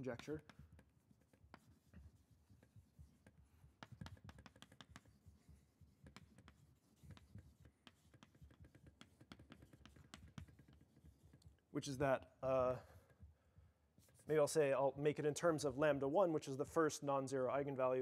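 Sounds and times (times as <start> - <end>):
chalk writing on blackboard: 0.0 - 17.2.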